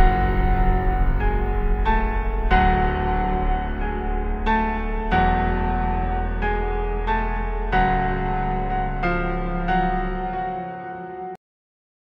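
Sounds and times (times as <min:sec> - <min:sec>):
slow sustained music chords: 0:00.0 - 0:11.2.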